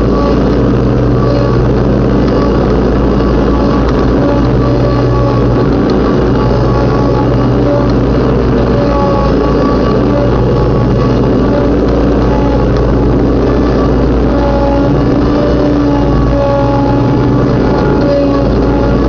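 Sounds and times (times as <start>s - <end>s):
mower blade cutting grass: 0.0s - 19.0s
riding lawnmower engine running: 0.0s - 19.0s.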